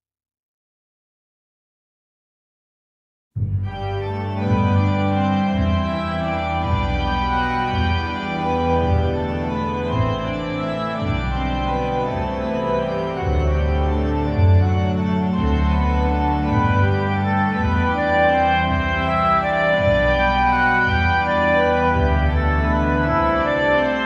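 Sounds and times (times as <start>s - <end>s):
bass line: 3.4s - 24.0s
held keyboard chords: 3.4s - 24.0s.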